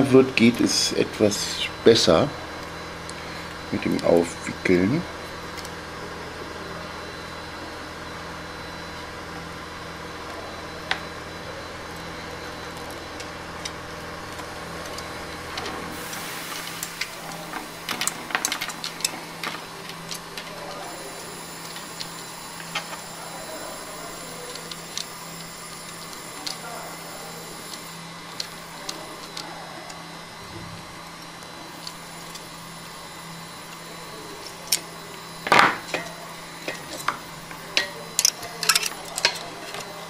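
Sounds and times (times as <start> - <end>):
machine-like hum: 0.0 - 40.0.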